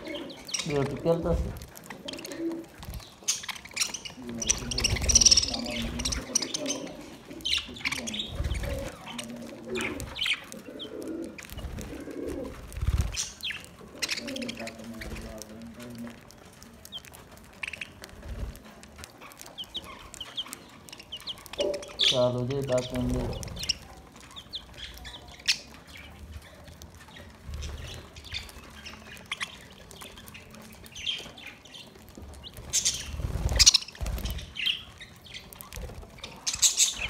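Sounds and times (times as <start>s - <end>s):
budgerigars chirping: 0.0s - 12.4s, 13.0s - 15.4s, 16.9s - 18.1s, 19.2s - 26.5s, 27.1s - 37.0s.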